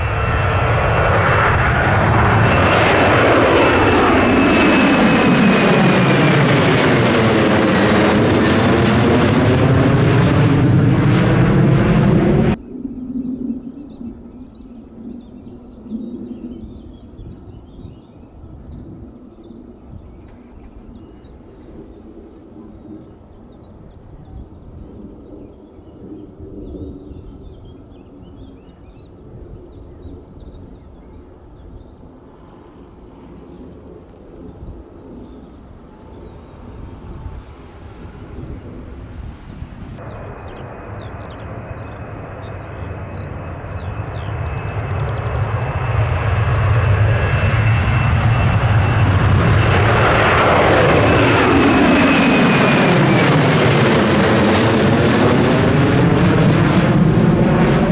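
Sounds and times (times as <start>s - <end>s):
birds chirping: 0.0s - 56.8s
jet airliner engine whine: 0.0s - 57.9s.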